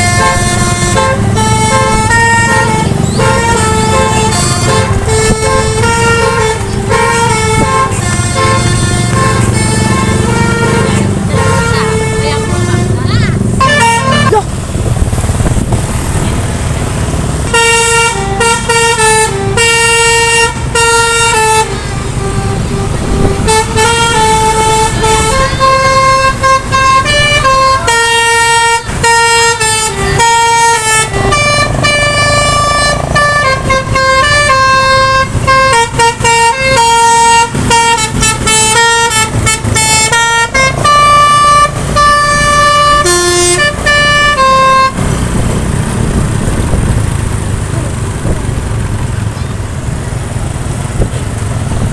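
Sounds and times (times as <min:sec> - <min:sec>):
musical bus horn playing a tune: 0:00.0 - 0:14.4, 0:17.4 - 0:46.7
low rumble of bus: 0:00.0 - 0:51.9.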